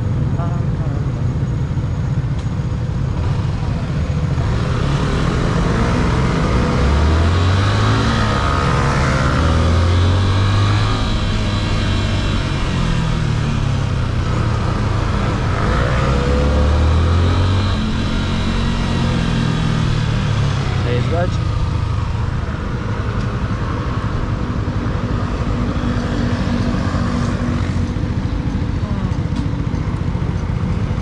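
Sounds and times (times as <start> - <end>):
motorcycle engine accelerating: 0.0 - 31.0
road and wind noise: 0.0 - 31.0.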